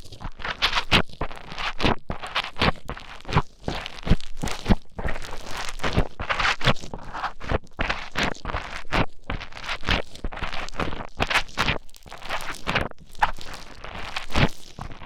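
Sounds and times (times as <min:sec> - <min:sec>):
foam crunching and crackling: 0:00.0 - 0:15.0.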